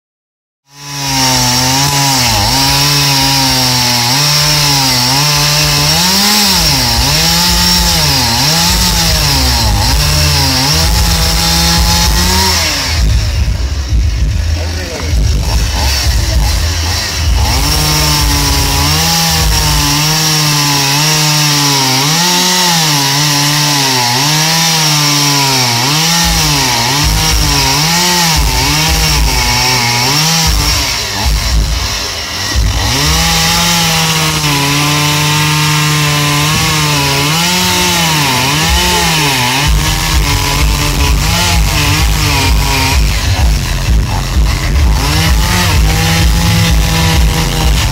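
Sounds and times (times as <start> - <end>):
chainsaw cutting wood: 0.7 - 47.9.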